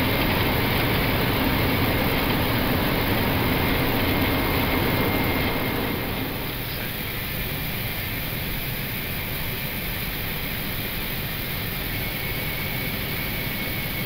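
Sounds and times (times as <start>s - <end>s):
aircraft engines and wheels rumbling: 0.0s - 14.0s.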